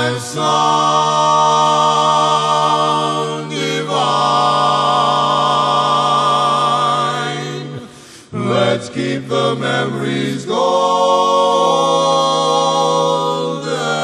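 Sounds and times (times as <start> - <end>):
a cappella voices singing chords: 0.0 - 14.0.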